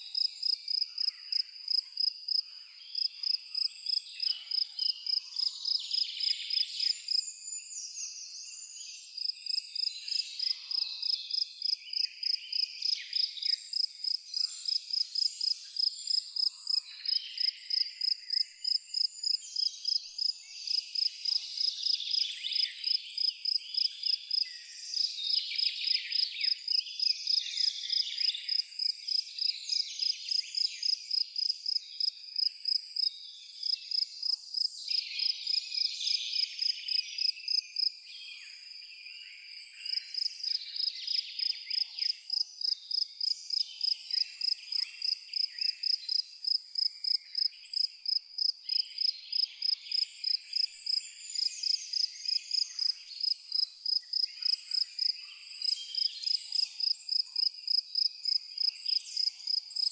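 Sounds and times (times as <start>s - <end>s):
cricket chirping: 0.0s - 7.9s, 9.2s - 59.9s
dense chorus of chirping: 0.0s - 59.9s.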